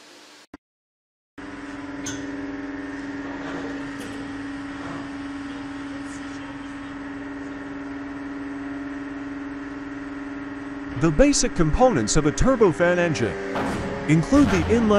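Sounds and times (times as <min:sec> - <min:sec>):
machine hum: 0:01.4 - 0:14.9.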